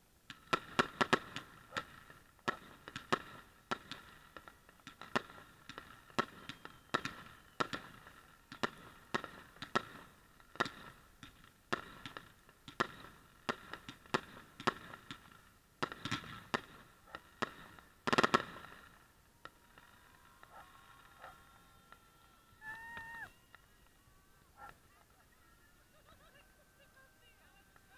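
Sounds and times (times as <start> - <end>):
aerial fireworks bursting: 0.3 - 24.0.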